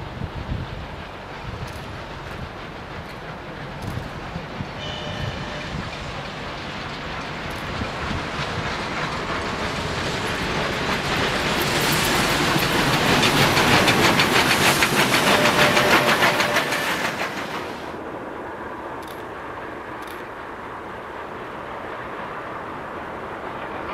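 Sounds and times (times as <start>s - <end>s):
steam train passing: 0.0s - 23.9s.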